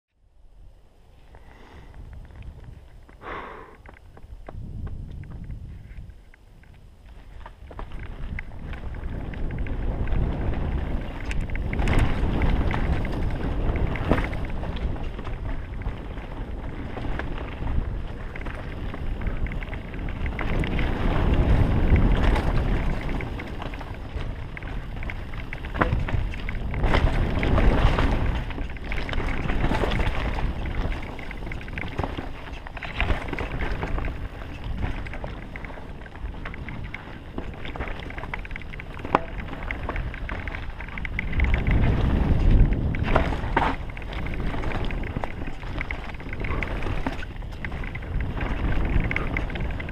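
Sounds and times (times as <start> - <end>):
wind rushing over microphone: 0.3 - 49.9
bike tyres on dirt: 0.6 - 49.9
bike rattling and clicking: 3.8 - 49.9.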